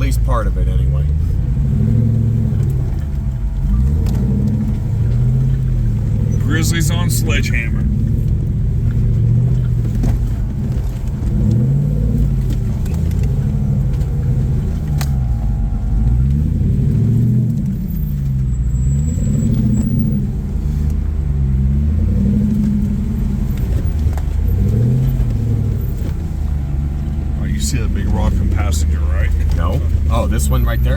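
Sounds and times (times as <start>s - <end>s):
off-road vehicle engine revving: 0.0s - 30.9s.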